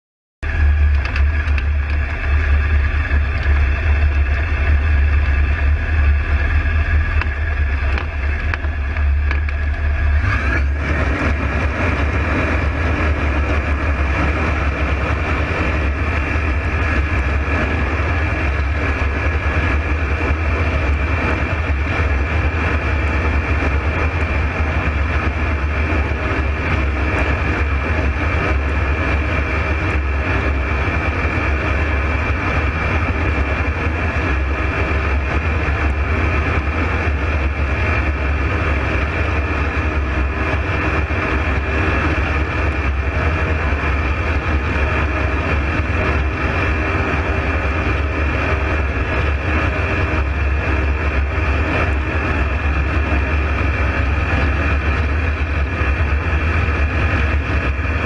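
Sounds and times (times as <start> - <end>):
rushing air: 0.4 - 58.0
ultralight aircraft engine running: 0.4 - 58.0.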